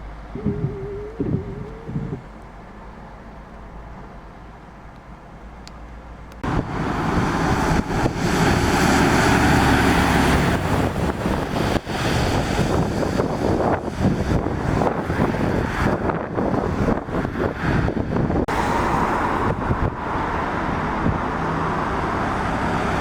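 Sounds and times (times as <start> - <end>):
wind buffeting microphone: 0.0 - 2.4, 6.4 - 23.0
lorry engine noise: 0.0 - 3.8, 6.3 - 23.0.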